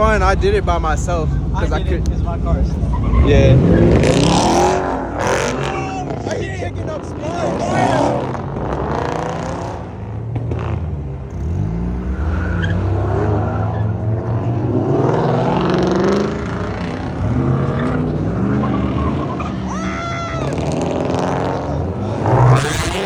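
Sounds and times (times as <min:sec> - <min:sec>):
car engines accelerating: 0:00.0 - 0:23.0.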